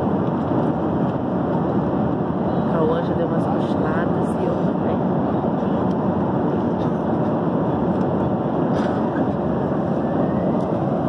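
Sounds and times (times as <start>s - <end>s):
airliner cabin roar in flight: 0.0s - 11.0s.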